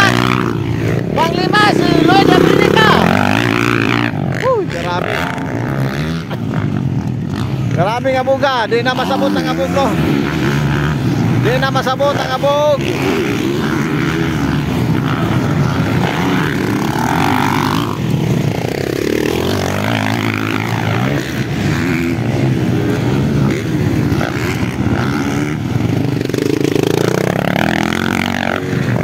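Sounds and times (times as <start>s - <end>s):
dirt bikes revving past: 0.0s - 29.0s.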